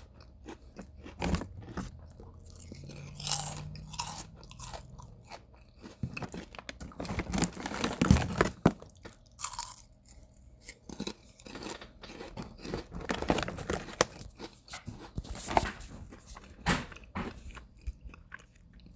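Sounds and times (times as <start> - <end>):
person chewing potato chips: 0.0 - 18.9.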